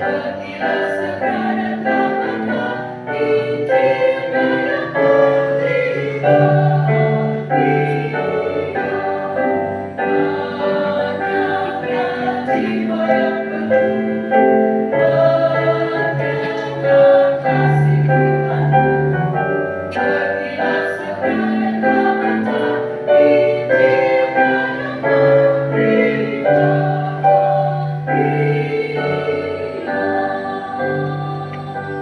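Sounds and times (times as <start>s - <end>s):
keyboard accompaniment: 0.0s - 32.0s
mixed choir singing: 0.0s - 32.0s.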